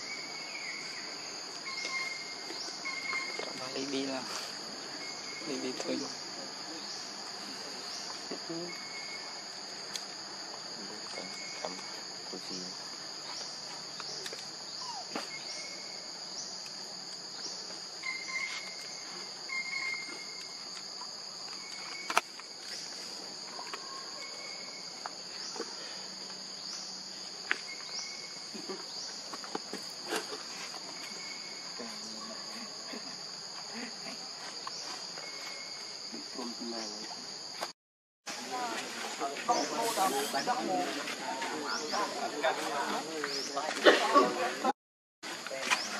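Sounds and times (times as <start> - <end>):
high-pitched insect chorus: 0.0 - 37.7, 38.3 - 45.9.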